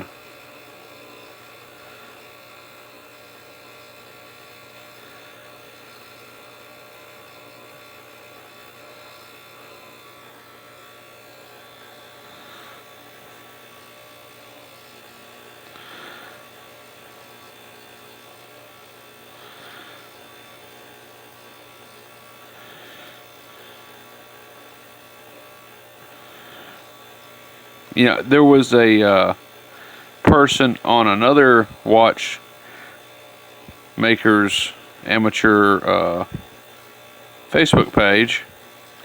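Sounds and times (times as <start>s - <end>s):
electrical hum with buzz: 0.0s - 39.0s.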